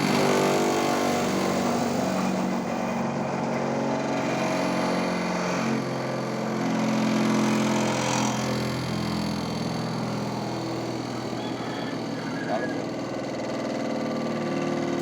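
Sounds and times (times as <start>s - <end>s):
sharpening machine motor humming: 0.0s - 15.0s.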